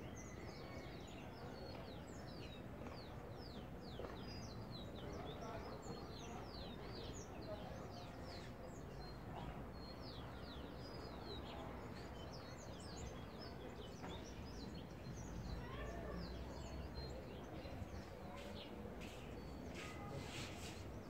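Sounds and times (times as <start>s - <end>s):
low background noise: 0.0s - 21.0s
small birds chirping: 0.0s - 21.0s.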